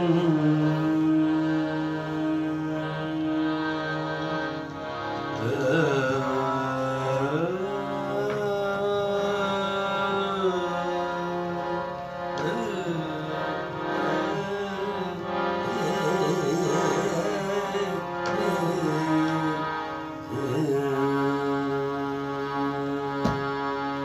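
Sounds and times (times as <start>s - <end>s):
harmonium sustained chords: 0.0s - 24.0s
man singing long notes: 0.0s - 24.0s.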